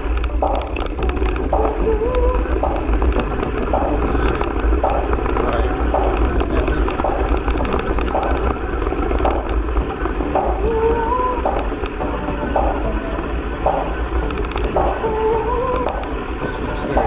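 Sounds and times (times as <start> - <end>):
bike rattling and clicking: 0.0 - 17.0.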